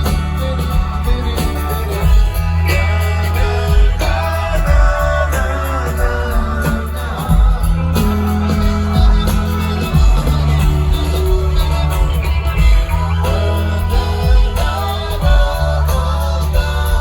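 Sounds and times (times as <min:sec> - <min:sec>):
guitar lines: 0:00.0 - 0:17.0
sustained bass notes: 0:00.0 - 0:17.0.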